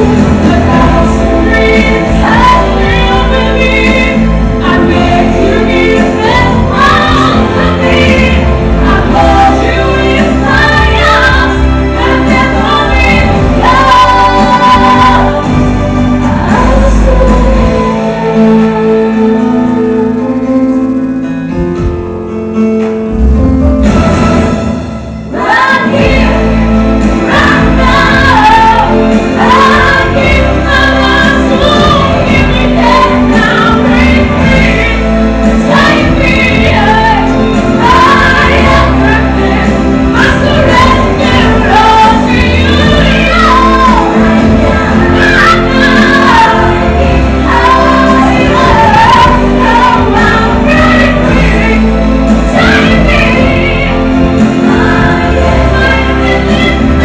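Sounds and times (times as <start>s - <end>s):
woman singing: 0.0s - 19.9s, 25.3s - 57.0s
loud musical accompaniment: 0.0s - 57.0s.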